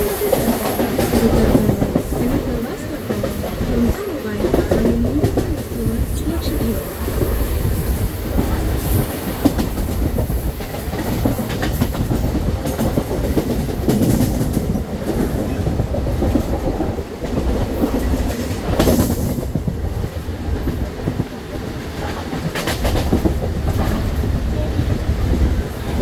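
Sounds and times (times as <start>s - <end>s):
low train rumble: 0.0s - 26.0s
train wheels clattering: 0.0s - 26.0s.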